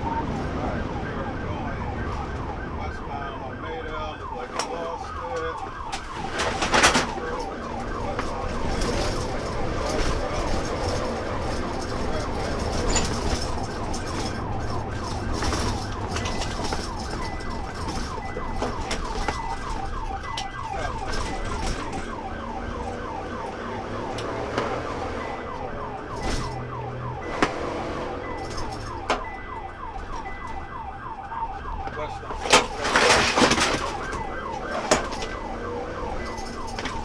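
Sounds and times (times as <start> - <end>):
car engine and road noise: 0.0 - 37.0
police siren yelping: 0.0 - 37.0.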